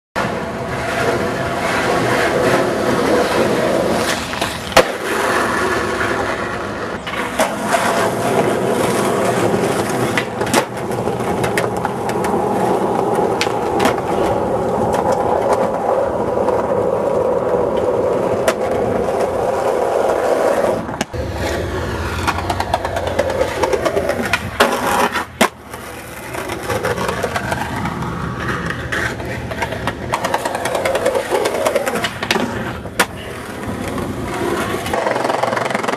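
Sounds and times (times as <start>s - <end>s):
skateboard clacks: 0.2s - 35.9s
skateboard wheels rolling on concrete: 0.2s - 35.9s.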